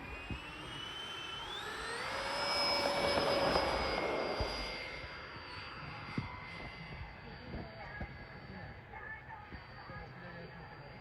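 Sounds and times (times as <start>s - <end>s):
model airplane engine whine: 0.0s - 11.0s.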